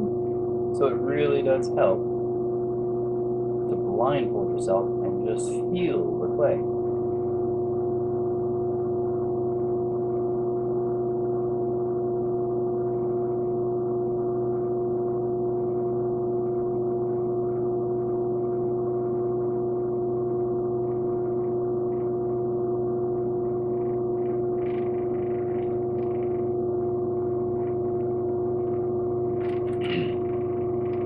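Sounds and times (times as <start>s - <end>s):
pottery wheel humming: 0.0s - 31.0s.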